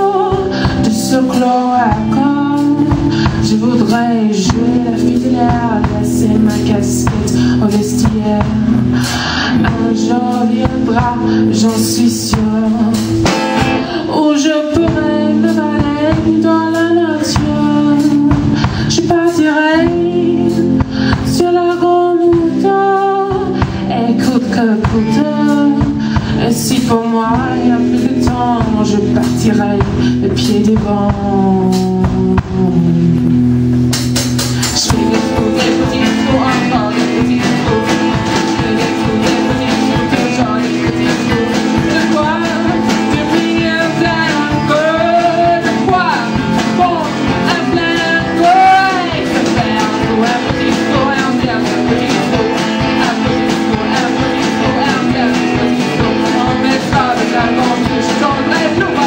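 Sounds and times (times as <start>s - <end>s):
person singing: 0.0s - 33.5s, 34.4s - 59.0s
guitar accompaniment: 0.0s - 59.0s.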